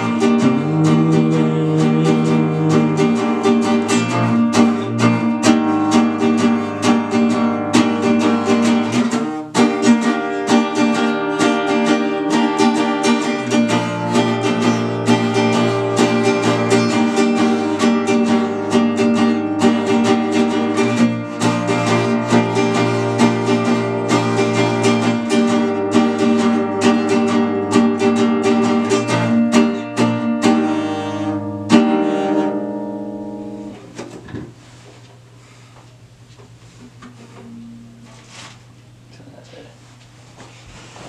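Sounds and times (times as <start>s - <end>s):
acoustic guitar picking: 0.0s - 34.6s, 36.8s - 38.7s.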